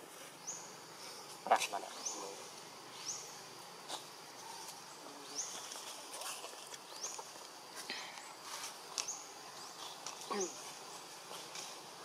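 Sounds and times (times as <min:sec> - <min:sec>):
forest ambience: 0:00.0 - 0:12.0.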